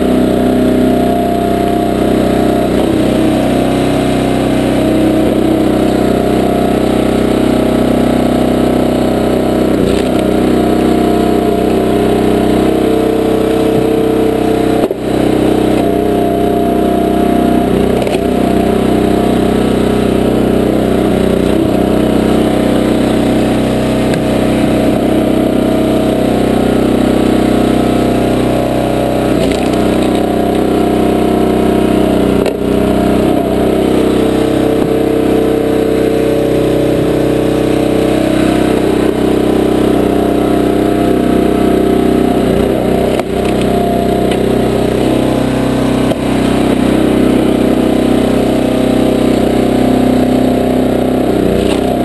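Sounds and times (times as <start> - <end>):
log splitter engine running: 0.0 - 52.0.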